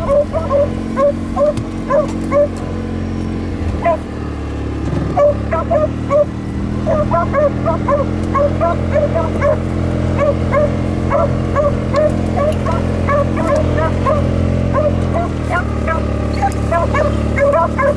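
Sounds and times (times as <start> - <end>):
dogs baying: 0.0 - 4.2, 5.0 - 17.9
utility vehicle engine humming: 0.0 - 17.9.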